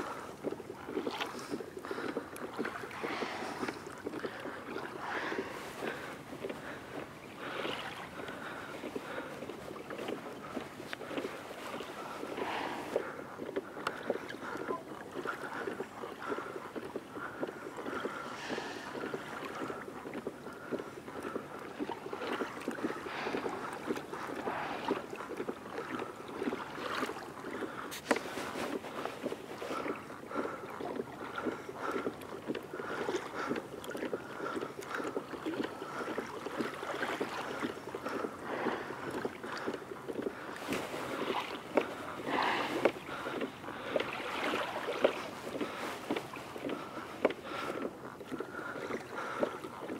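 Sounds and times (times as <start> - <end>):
water lapping against hull: 0.0 - 49.9.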